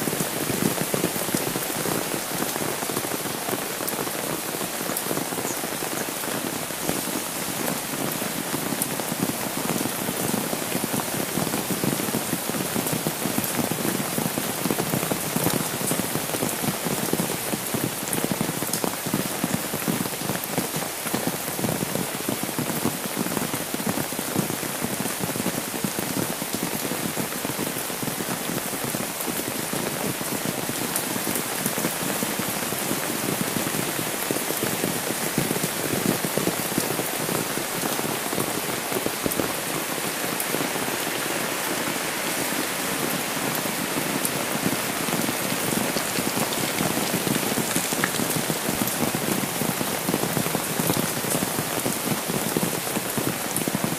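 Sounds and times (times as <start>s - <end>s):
rain pattering on umbrella and pavement: 0.0s - 53.9s.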